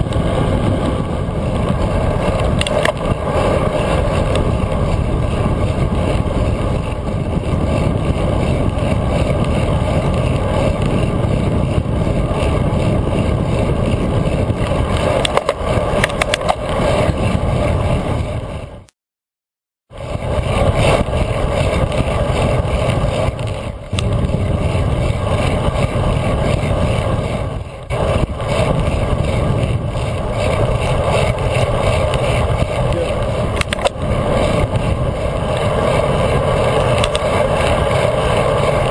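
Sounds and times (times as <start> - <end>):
tyre noise on asphalt: 0.0 - 18.9, 19.9 - 38.9
wind rushing over microphone: 0.0 - 18.9, 19.9 - 38.9.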